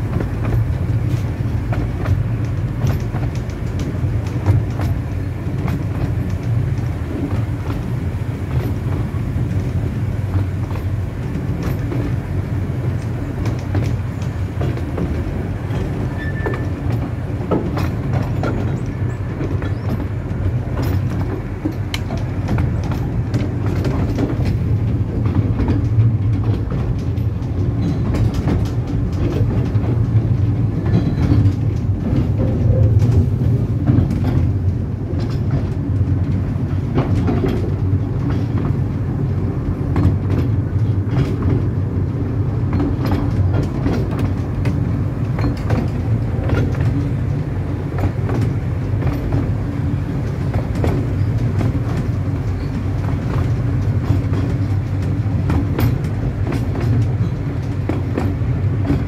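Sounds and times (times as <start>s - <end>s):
train rumbling: 0.0s - 59.0s
wheels clacking on track: 0.0s - 59.0s.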